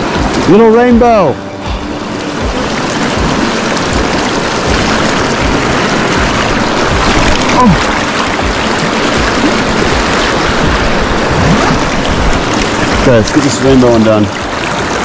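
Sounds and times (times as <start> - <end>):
river current rushing: 0.0 - 15.0
wind buffeting microphone: 1.7 - 15.0.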